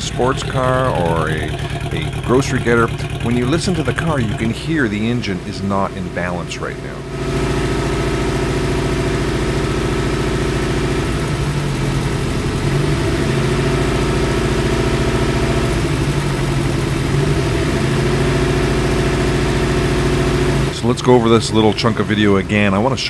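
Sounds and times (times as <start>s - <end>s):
engine idling with misfire: 0.0s - 23.0s.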